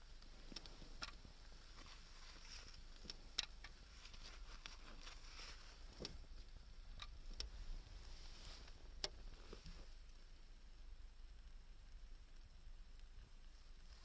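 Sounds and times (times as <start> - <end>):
faint clicks and light taps: 0.0 - 14.0
low steady hiss: 0.0 - 14.0.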